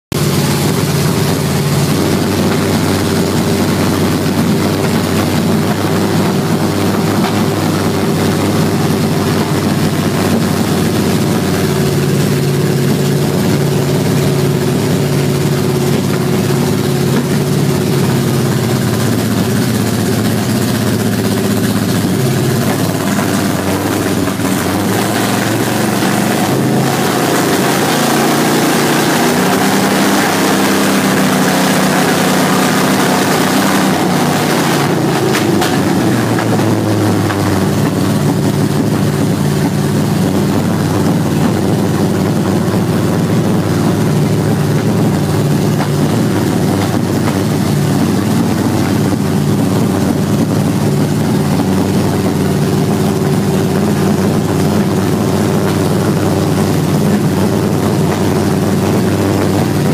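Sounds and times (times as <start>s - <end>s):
car engine idling: 0.1s - 59.9s.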